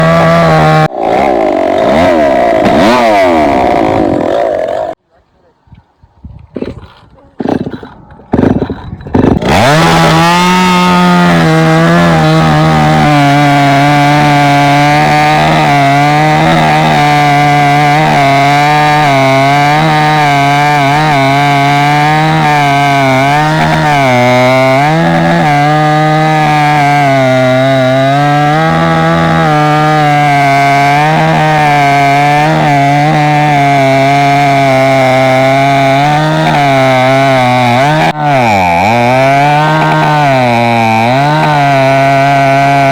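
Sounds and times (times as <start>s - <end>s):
chainsaw cutting wood: 0.0s - 5.0s, 6.5s - 42.9s.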